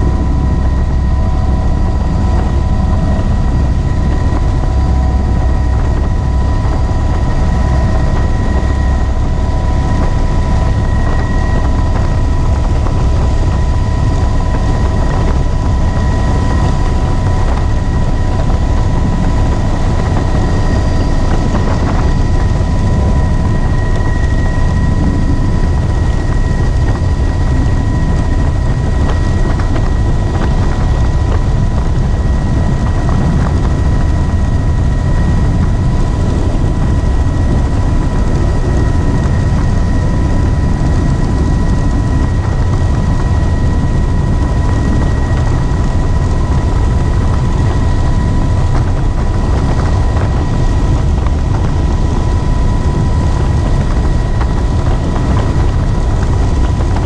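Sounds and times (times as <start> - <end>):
helicopter rotor and engine rumble: 0.0 - 57.0
high whine: 0.0 - 57.0.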